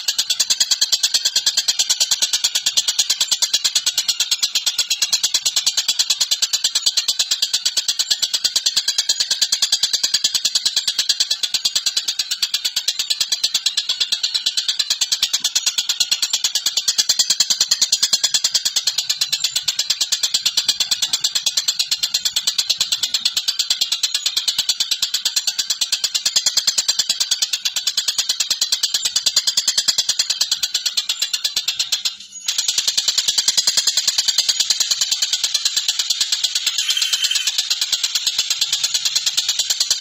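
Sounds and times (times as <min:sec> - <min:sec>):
bird harsh rapid chatter: 0:00.0 - 0:40.0.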